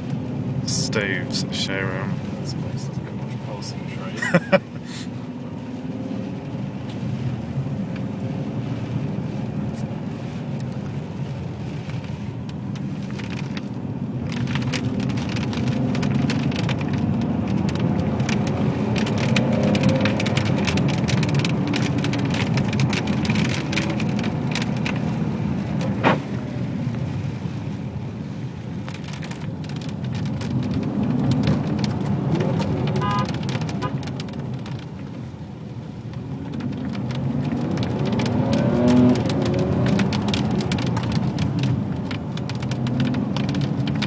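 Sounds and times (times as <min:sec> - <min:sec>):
car engine running: 0:00.0 - 0:44.0
tyres spattering on wet road: 0:00.0 - 0:44.0.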